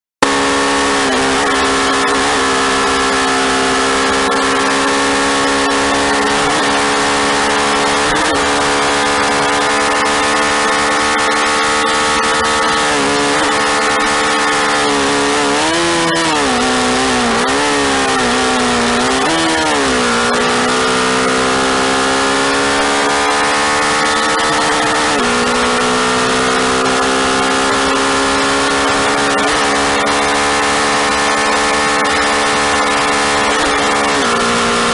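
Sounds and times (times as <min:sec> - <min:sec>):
motorcycle engine at speed: 0:00.2 - 0:34.9
wind and road noise: 0:00.2 - 0:34.9.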